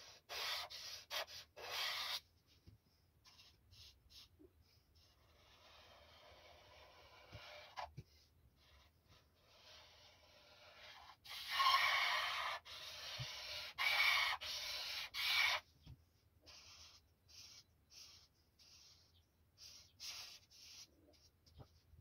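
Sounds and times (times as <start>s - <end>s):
marker rubbing on paper: 0.0s - 2.5s, 3.2s - 15.7s, 16.4s - 21.8s.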